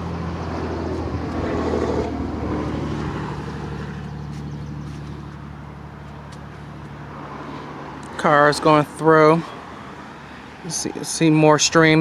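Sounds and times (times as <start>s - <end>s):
low traffic drone: 0.0s - 12.0s
passing car engine and tyres: 0.0s - 12.0s.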